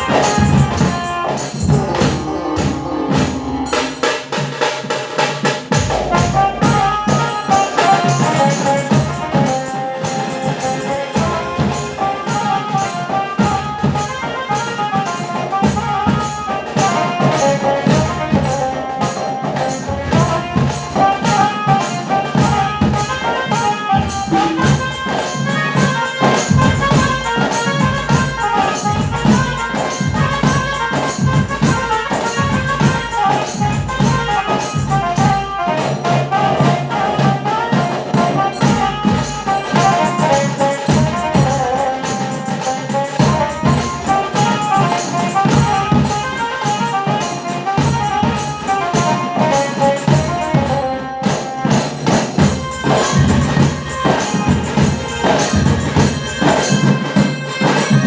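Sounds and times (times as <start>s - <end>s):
brass playing a melody: 0.0s - 4.4s, 5.7s - 58.0s
fast driving drumming: 0.0s - 58.0s.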